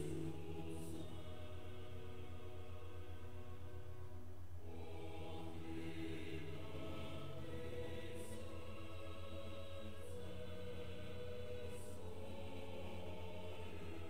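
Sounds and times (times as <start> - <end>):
congregation singing a hymn: 0.0 - 14.0
low electrical hum: 0.0 - 14.0.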